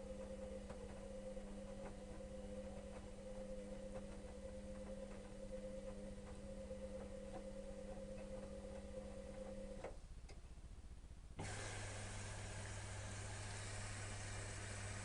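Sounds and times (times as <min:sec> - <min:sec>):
washing machine motor humming: 0:00.0 - 0:10.0, 0:11.4 - 0:15.0.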